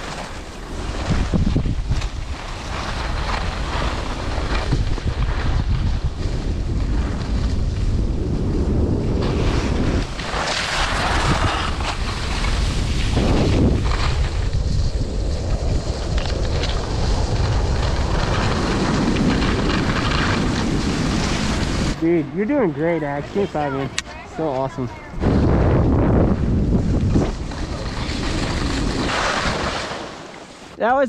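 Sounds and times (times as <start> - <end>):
skis sliding on packed snow: 0.0 - 25.0, 26.5 - 30.8
wind buffeting microphone: 0.0 - 30.0.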